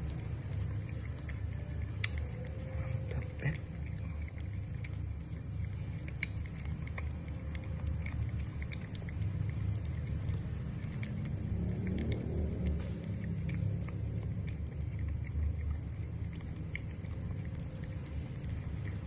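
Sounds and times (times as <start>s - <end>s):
cat tongue licking clicks: 0.0s - 19.0s
low rumble: 0.0s - 19.0s.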